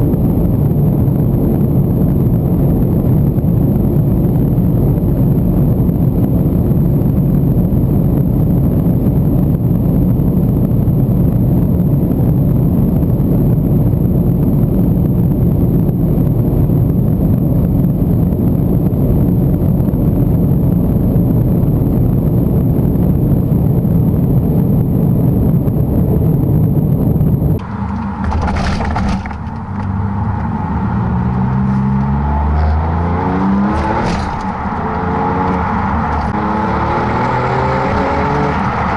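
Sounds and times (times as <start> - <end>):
car engine accelerating: 0.0 - 38.9
wind and road noise: 0.0 - 38.9.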